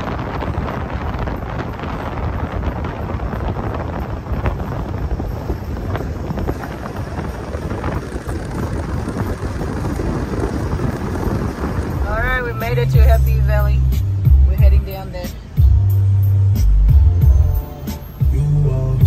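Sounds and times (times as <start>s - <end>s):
wind buffeting microphone: 0.0s - 17.6s
vehicle engine and tyres rumbling: 0.0s - 19.0s.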